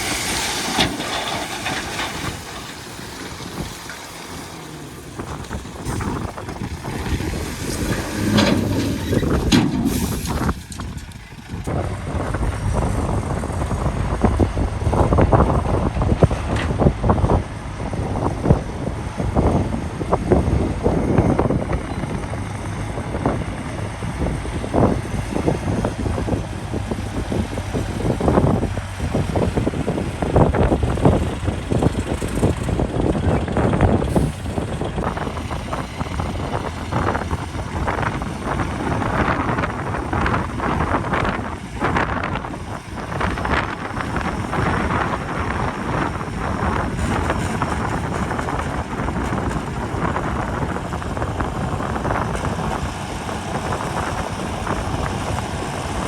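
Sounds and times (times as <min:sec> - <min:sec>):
heavy machinery low rumble: 0:00.0 - 0:56.0
wind buffeting microphone: 0:00.0 - 0:56.0.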